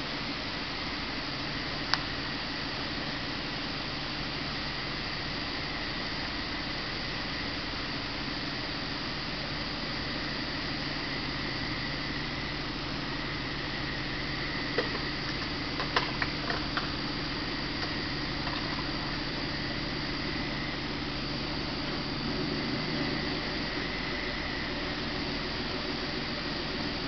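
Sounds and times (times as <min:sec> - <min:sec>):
car engine idling: 0:00.0 - 0:27.0
hiss: 0:00.0 - 0:27.0.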